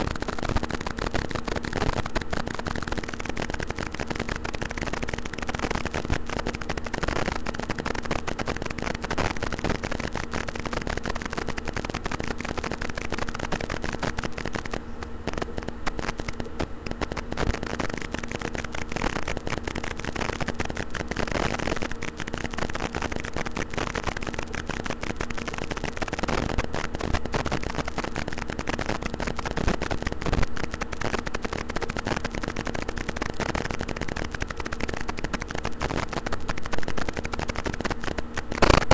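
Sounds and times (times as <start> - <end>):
crackling static: 0.0 - 38.9
steady low hum: 0.0 - 38.9.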